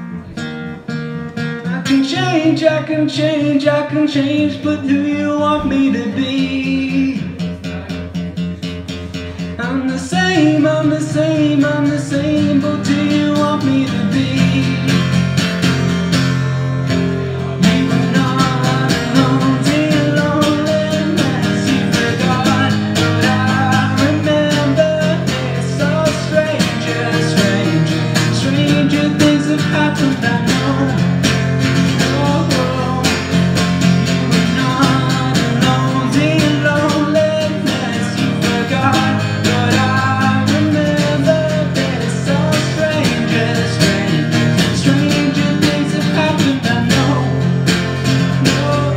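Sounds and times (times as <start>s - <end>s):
acoustic guitar strumming: 0.0s - 48.9s.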